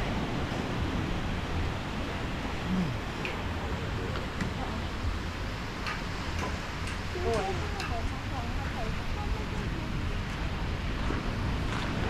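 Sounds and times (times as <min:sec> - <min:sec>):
low wind rumble: 0:00.0 - 0:12.0
surf breaking on a beach: 0:00.0 - 0:12.0.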